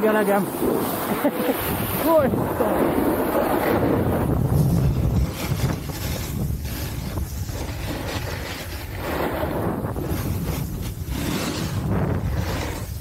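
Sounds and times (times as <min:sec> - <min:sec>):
rushing hiss of snow: 0:00.0 - 0:13.0
wind buffeting microphone: 0:00.0 - 0:13.0.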